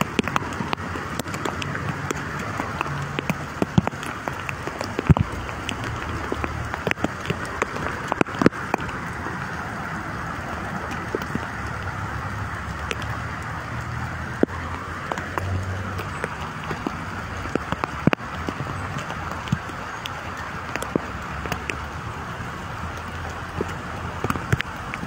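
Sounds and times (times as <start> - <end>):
rain falling: 0.0 - 25.0
traffic on wet street: 0.0 - 25.0.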